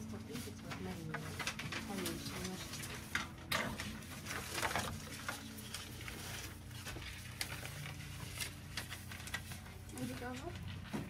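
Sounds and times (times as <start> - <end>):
rustling and crackling handling: 0.0 - 11.0.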